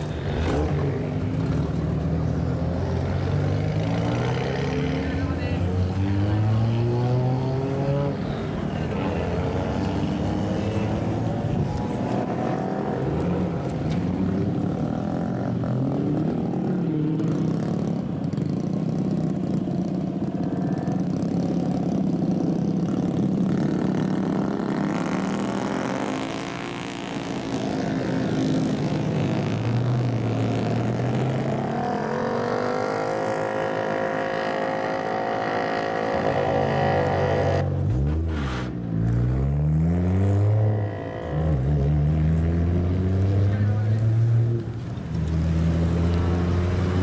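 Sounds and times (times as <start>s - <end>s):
car and motorcycle engines revving: 0.0s - 47.0s.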